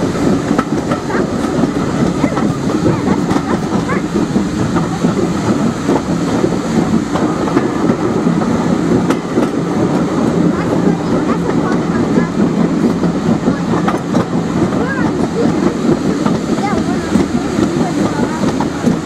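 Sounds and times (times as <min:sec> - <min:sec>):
train wheels clickety-clack: 0:00.0 - 0:19.0
train wheels rumbling on rail: 0:00.0 - 0:19.0.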